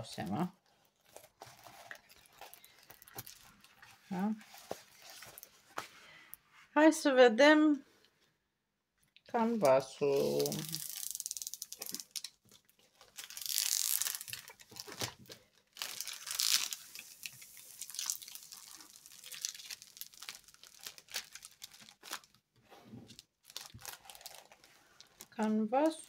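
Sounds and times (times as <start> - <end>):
plastic film crinkling: 0.8 - 5.8, 9.8 - 26.0.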